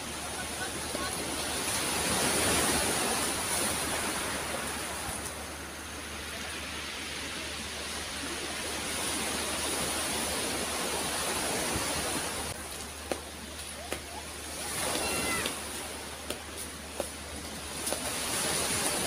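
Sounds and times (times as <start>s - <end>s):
waves washing over pebbles: 0.0s - 19.0s.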